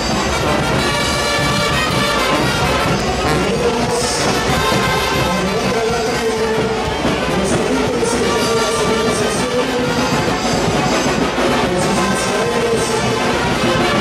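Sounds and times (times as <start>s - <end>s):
brass music with trumpets: 0.0s - 14.0s.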